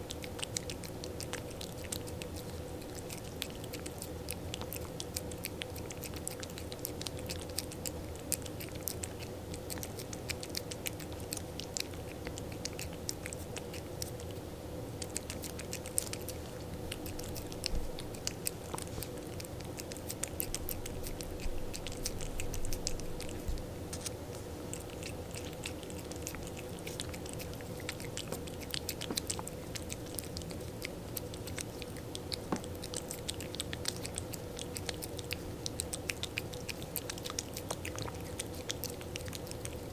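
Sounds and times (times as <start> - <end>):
cat licking and chewing: 0.0 - 39.9.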